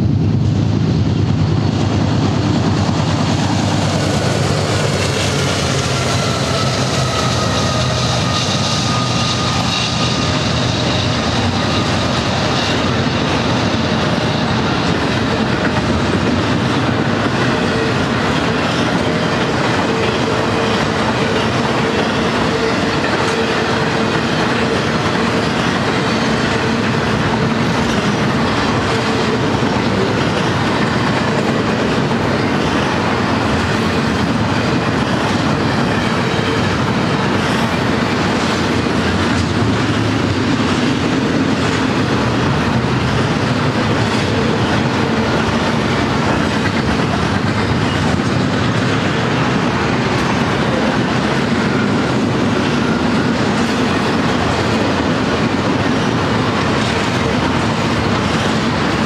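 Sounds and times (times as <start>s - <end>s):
diesel locomotive engines: 0.0s - 59.0s
freight cars rumbling and clacking: 0.0s - 59.0s.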